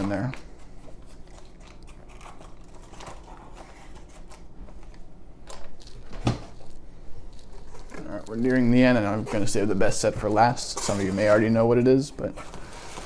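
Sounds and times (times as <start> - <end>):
paper and cardboard rustling: 0.0 - 5.0, 5.8 - 13.0.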